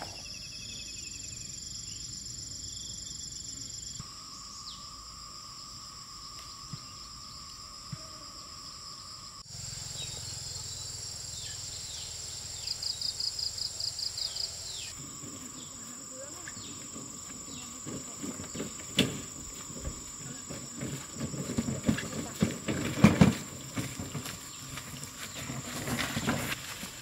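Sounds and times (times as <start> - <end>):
insects trilling: 0.0 - 27.0
pulsed insect chirp: 0.0 - 27.0.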